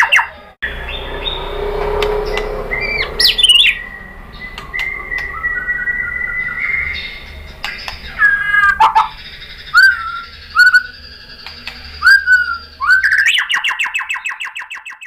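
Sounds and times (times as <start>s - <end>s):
bird whistling notes: 0.0s - 15.0s
rapid repeated bird notes: 0.0s - 15.0s.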